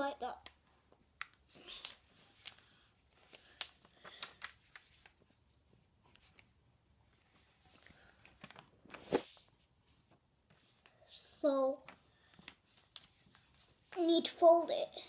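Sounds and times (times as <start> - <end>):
paper rustling and creasing: 1.2 - 14.6.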